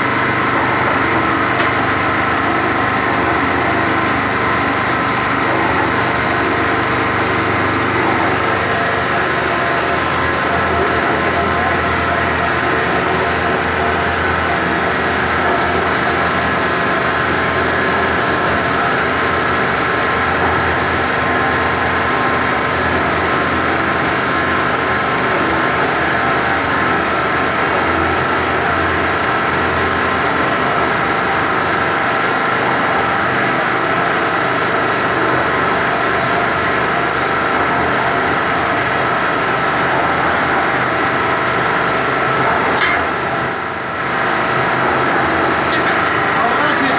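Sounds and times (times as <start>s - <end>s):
concrete mixer turning sand: 0.0s - 46.9s
petrol generator engine running: 0.0s - 46.9s.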